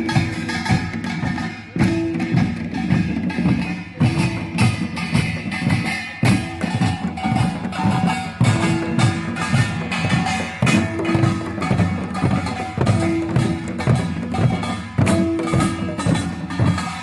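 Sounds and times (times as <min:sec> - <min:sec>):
drum beats: 0:00.0 - 0:17.0
small gongs clanging: 0:00.0 - 0:17.0.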